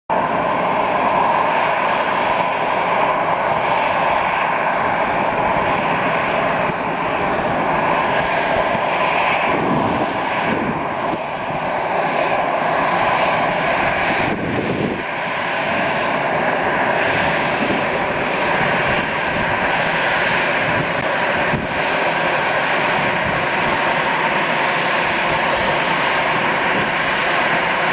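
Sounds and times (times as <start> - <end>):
faint engine whine: 0.1 - 27.9
jet engines running: 0.1 - 27.9.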